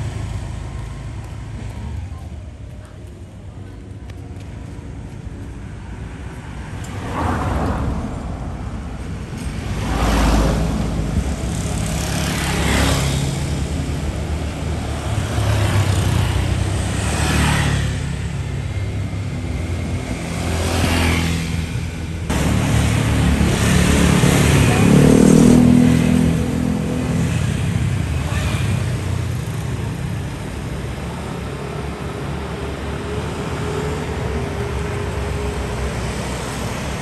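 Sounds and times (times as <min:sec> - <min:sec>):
traffic rumble: 0:00.0 - 0:37.0
vehicles passing: 0:00.0 - 0:37.0.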